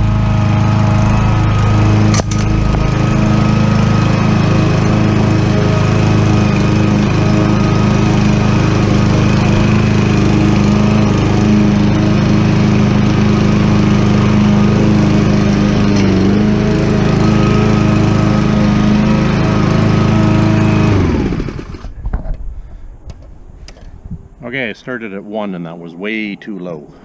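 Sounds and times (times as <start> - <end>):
lawn mower engine mowing grass: 0.0 - 22.0.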